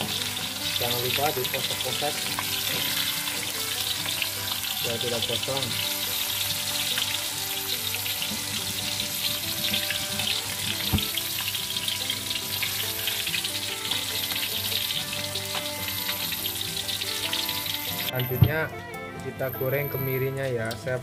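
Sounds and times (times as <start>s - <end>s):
shallots sizzling in hot oil: 0.0s - 18.6s.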